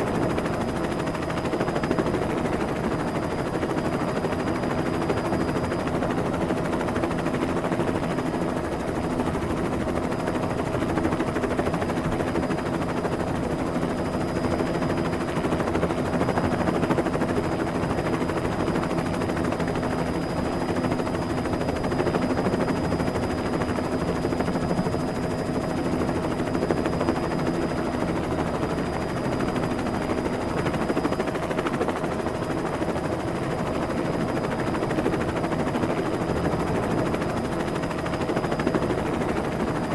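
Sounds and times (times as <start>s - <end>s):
helicopter rotor blades chopping: 0.0s - 39.9s.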